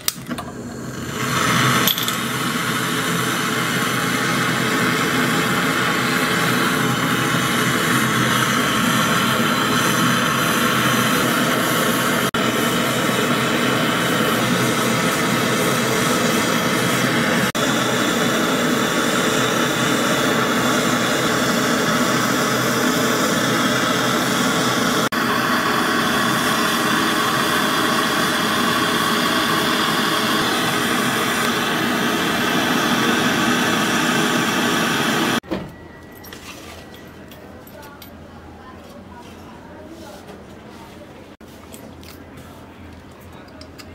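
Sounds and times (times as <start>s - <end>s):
gas torch flame hissing: 0.0s - 35.4s.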